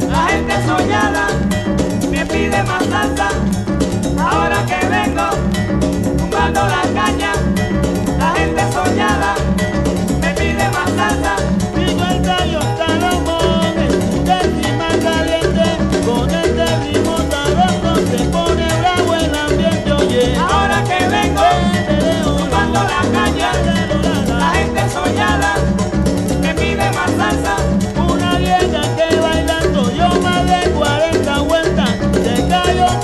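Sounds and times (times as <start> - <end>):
salsa band playing instrumental: 0.0 - 33.0.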